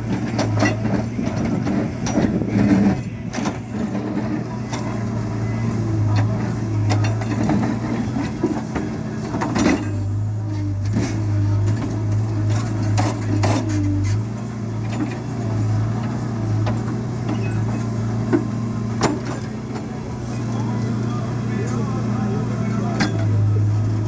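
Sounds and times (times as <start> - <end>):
motor running steadily: 0.0 - 24.0.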